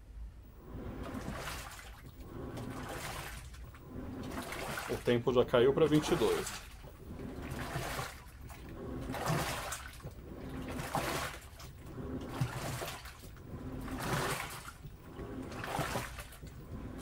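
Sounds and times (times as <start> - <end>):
low motor hum: 0.0 - 17.0
water sloshing in washing machine: 0.4 - 17.0.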